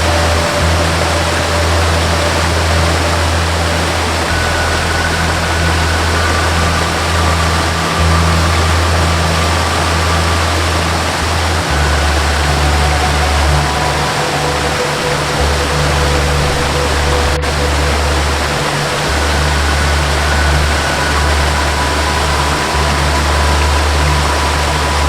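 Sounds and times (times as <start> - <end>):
faint high sustained tones: 0.0 - 25.0
slow ambient melody: 0.0 - 25.0
waterfall rushing: 0.0 - 25.0.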